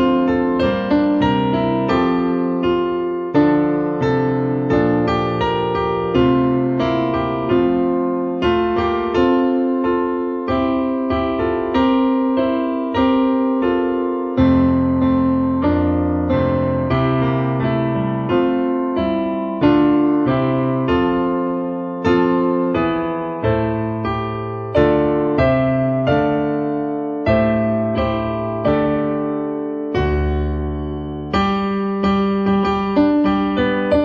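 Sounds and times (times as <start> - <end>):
piano notes and chords: 0.0 - 34.0.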